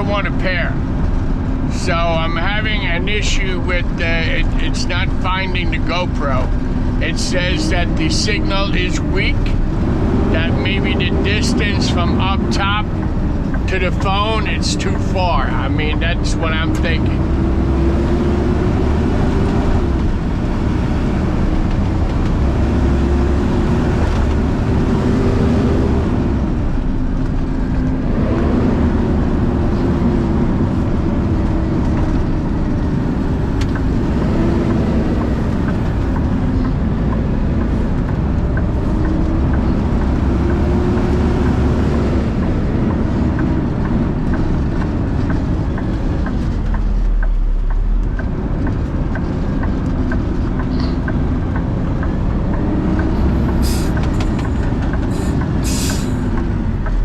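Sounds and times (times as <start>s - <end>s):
road noise: 0.0s - 57.0s
vehicle engine: 0.0s - 57.0s.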